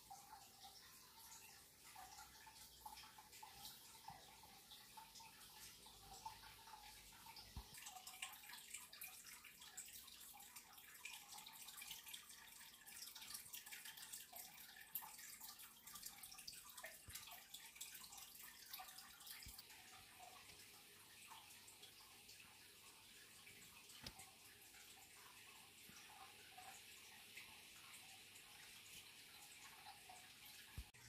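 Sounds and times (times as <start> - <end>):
water dripping and trickling: 0.0 - 31.0.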